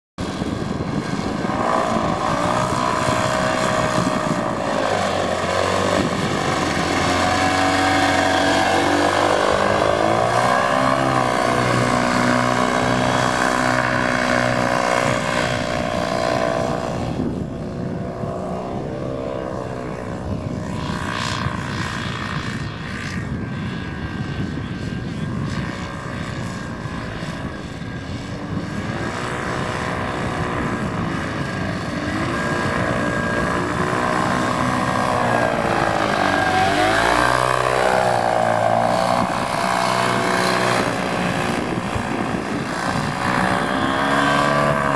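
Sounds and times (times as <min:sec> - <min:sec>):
paramotor engine and propeller: 0:00.2 - 0:44.9.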